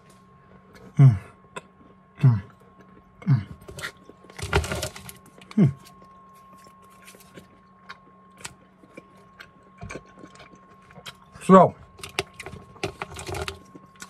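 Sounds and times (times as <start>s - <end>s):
candy chewing: 1.5s - 14.0s.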